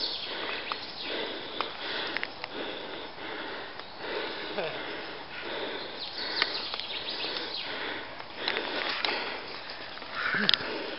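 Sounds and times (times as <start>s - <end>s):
outdoor noise: 0.0s - 10.9s.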